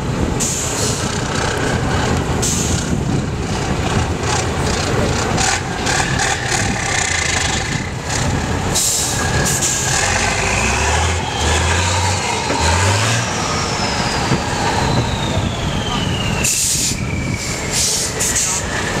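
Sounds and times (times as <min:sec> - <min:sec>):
truck diesel engine under load: 0:00.0 - 0:19.0.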